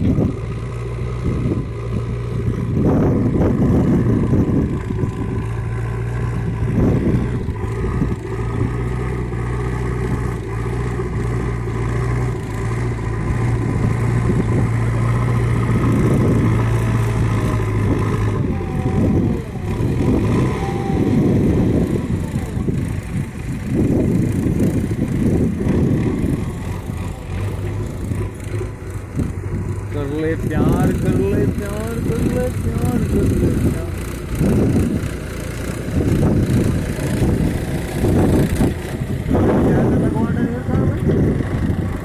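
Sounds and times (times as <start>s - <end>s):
engine low even hum: 0.0s - 42.0s
rough engine noise: 0.0s - 42.0s.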